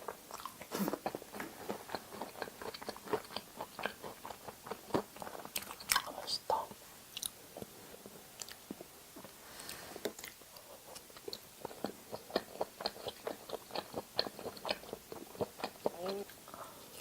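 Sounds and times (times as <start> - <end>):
chewing food: 0.0 - 6.2, 7.1 - 17.0.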